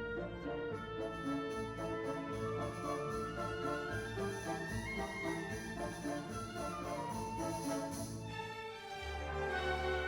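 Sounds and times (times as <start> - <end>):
orchestral music: 0.0 - 10.0.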